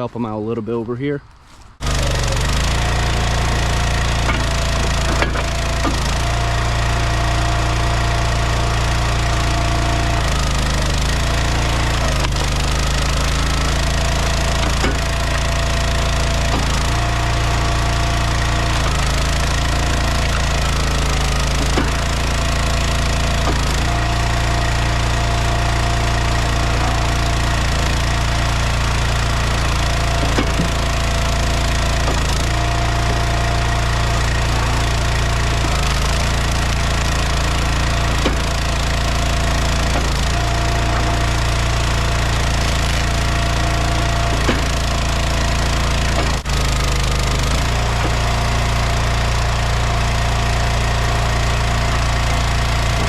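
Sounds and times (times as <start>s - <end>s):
log splitter engine running: 0.0s - 53.0s
sharp clicks and knocks: 1.8s - 53.0s.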